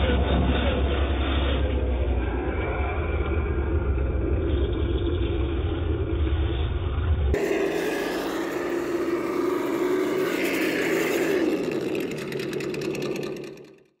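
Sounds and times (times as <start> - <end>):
simulated engine sound: 0.0 - 14.0.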